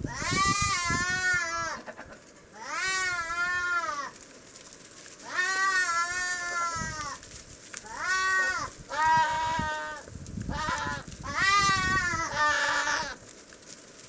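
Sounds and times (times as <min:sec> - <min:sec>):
goats bleating: 0:00.1 - 0:04.2, 0:05.2 - 0:07.2, 0:07.8 - 0:13.2.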